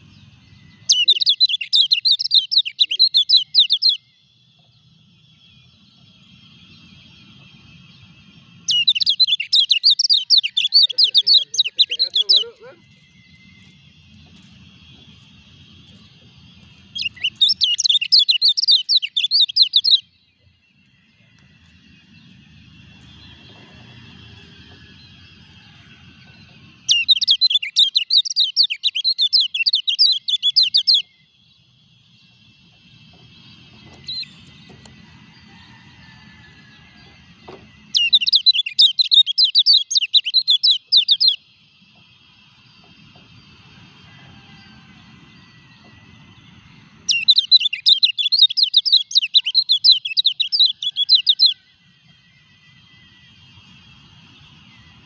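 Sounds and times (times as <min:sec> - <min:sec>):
bird chattering song: 0:00.0 - 0:24.0, 0:26.2 - 0:35.0, 0:37.2 - 0:43.6, 0:45.4 - 0:55.0.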